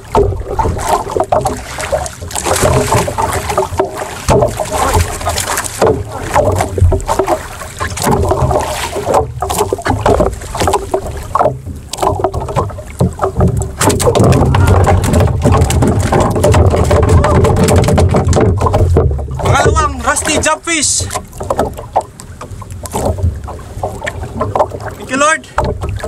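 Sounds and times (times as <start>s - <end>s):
water slapping against a wooden boat: 0.0s - 26.0s.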